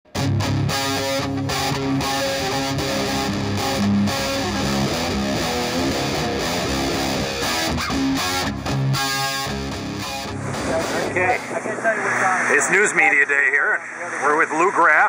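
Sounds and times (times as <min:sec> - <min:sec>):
distorted electric guitar: 0:00.1 - 0:15.0.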